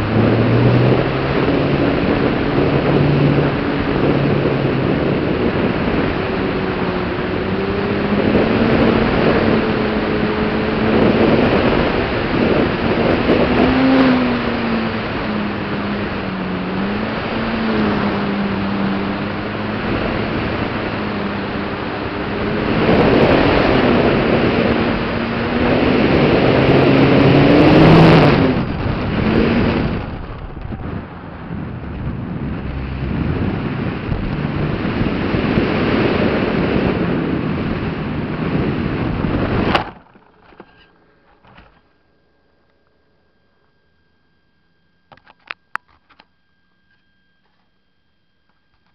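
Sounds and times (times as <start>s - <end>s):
wind rush on microphone: 0.0s - 41.7s
model plane motor and propeller drone: 0.0s - 48.9s.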